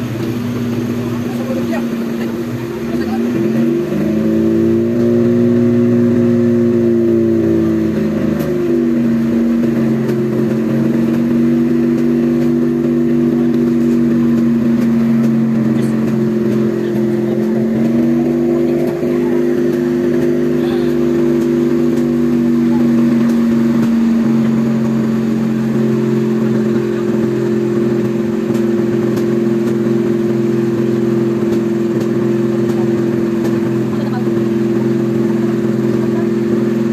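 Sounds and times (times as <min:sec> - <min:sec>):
fire truck engine running: 0:00.0 - 0:36.9.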